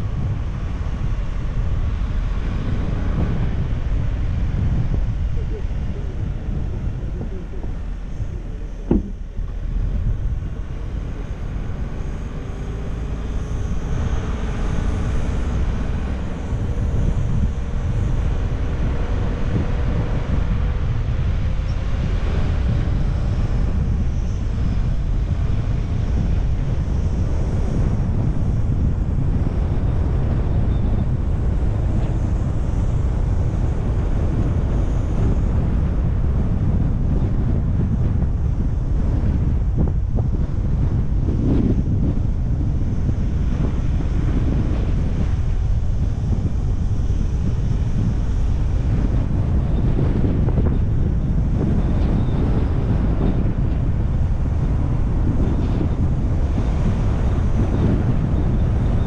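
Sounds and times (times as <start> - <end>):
faint car engine hum: 0.0 - 59.0
road noise: 0.0 - 59.0
wind buffeting microphone: 0.0 - 59.0.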